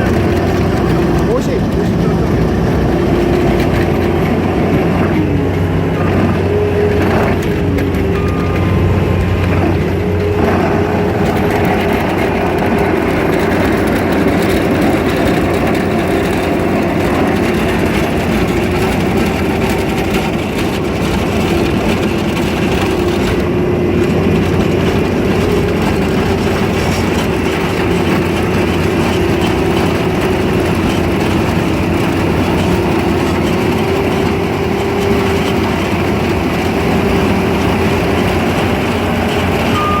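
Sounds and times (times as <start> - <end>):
diesel engine and hydraulics whining: 0.0 - 40.0.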